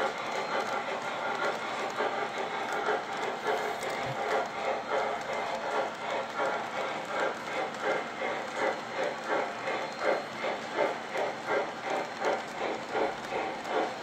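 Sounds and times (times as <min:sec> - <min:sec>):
model train clattering on track: 0:00.0 - 0:14.0.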